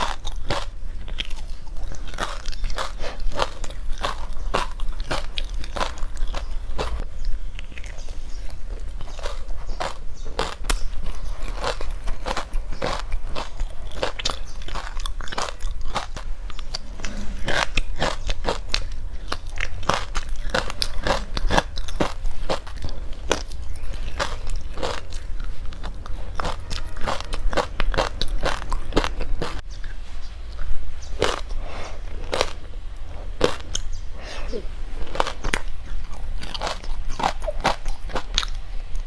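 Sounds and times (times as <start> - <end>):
crunchy ice chewing: 0.0 - 34.0, 35.0 - 39.0.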